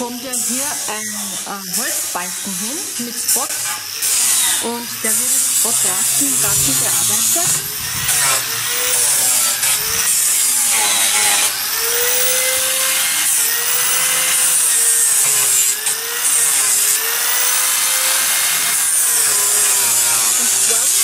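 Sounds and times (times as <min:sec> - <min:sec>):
power tool cutting wood: 0:00.0 - 0:21.0.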